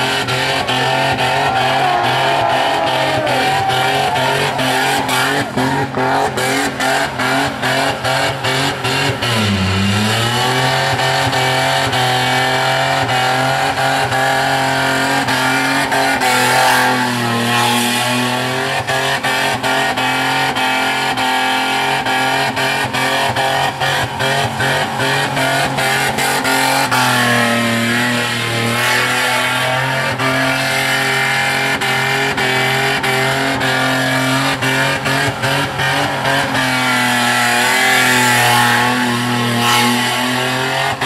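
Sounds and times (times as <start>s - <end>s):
car engine revving high: 0.0s - 41.0s
engine bouncing off rev limiter: 0.0s - 41.0s.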